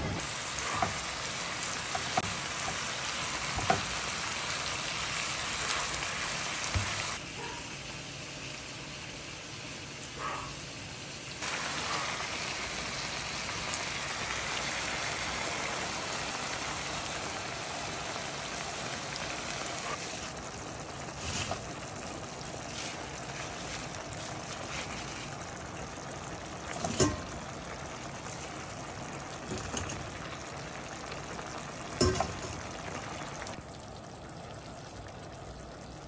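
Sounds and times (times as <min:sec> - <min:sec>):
food sizzling in a frying pan: 0:00.0 - 0:36.0.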